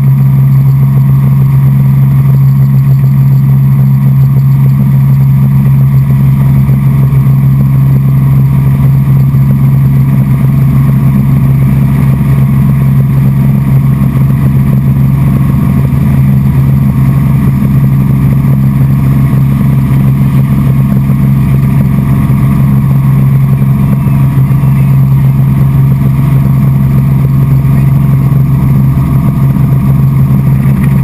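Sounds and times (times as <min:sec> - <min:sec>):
helicopter engine and rotor hum: 0:00.0 - 0:31.0.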